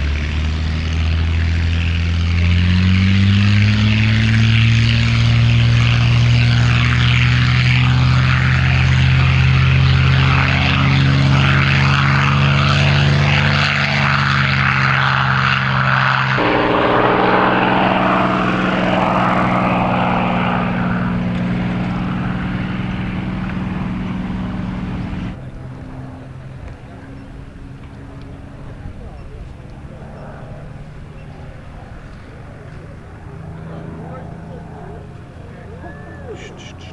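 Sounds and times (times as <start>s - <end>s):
propeller aircraft engine running: 0.0s - 36.9s.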